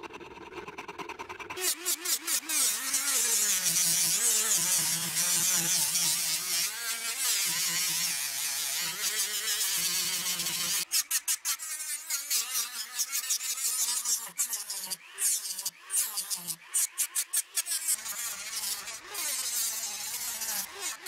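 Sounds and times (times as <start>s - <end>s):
rotary tool sanding wood: 0.0s - 21.0s.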